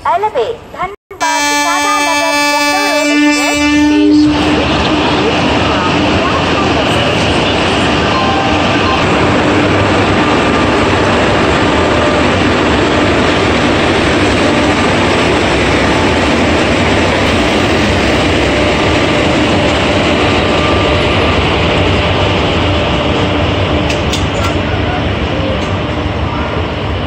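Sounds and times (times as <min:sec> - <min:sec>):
passenger coaches rolling by: 0:01.3 - 0:27.0
electric locomotive drone: 0:01.4 - 0:27.0.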